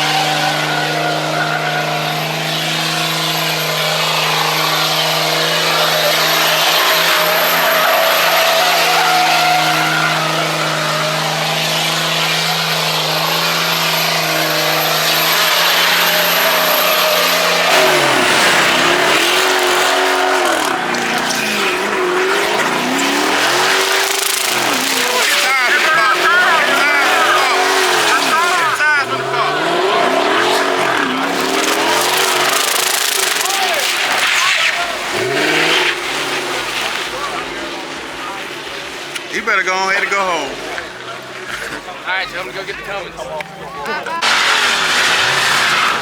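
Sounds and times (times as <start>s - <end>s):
car engine revving: 0.0s - 46.0s
tyres squealing: 0.0s - 46.0s.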